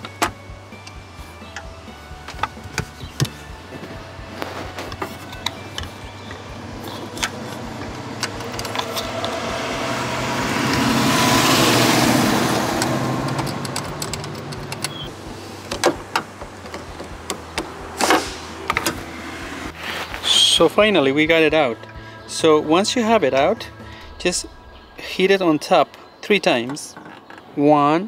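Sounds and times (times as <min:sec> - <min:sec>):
passing vehicle: 0:03.2 - 0:26.2.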